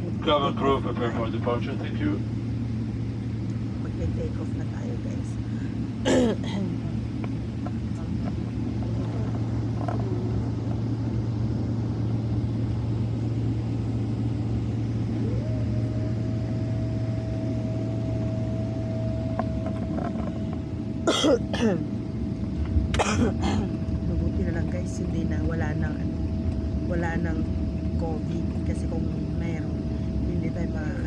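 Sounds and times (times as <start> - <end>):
jet engine rumble: 0.0 - 31.0
jet engine whine: 0.0 - 31.0.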